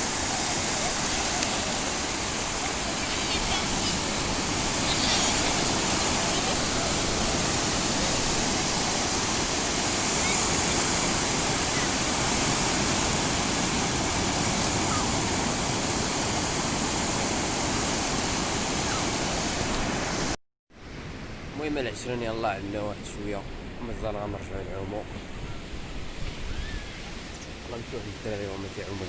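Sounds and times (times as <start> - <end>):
sea surf rushing: 0.0 - 29.0.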